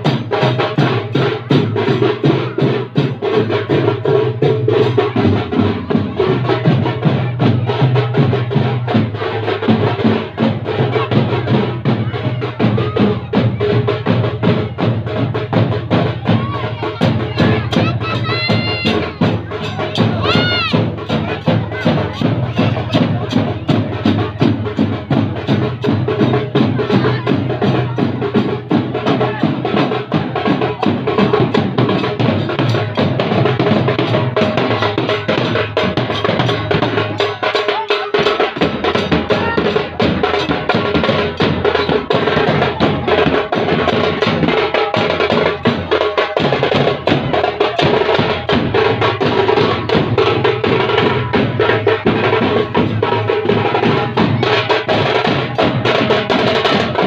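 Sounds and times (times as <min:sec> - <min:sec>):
large drums fast loud beat: 0:00.0 - 0:57.0.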